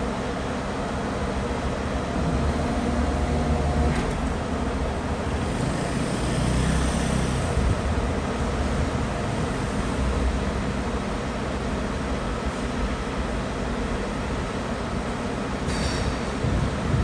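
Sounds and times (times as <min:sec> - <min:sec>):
diesel engine rumbling: 0:00.9 - 0:17.0.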